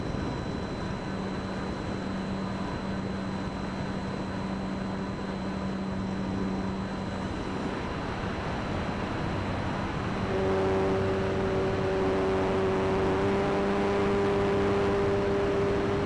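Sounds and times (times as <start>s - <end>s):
electric motor and propeller hum: 0.0s - 16.0s.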